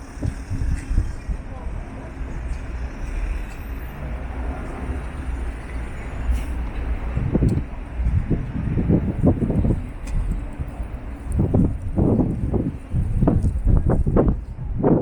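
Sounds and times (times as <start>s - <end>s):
rumble of passing traffic: 0.0s - 15.0s.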